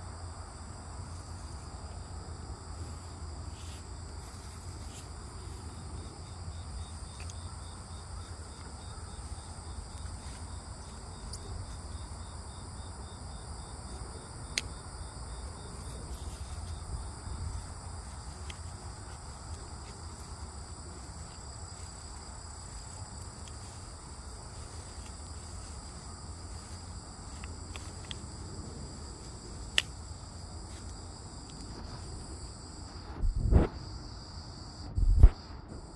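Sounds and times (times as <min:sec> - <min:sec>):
insects trilling: 0:00.0 - 0:35.9.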